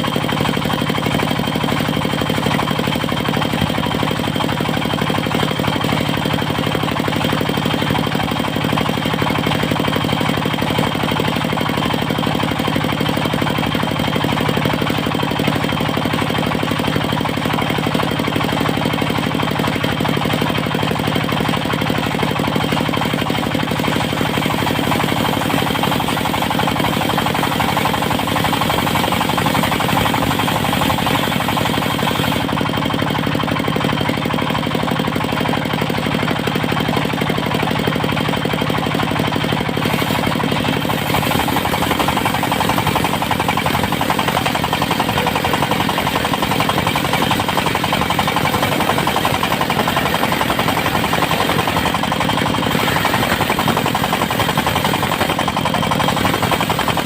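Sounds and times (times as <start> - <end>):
sawmill engine knocking: 0.0 - 57.0.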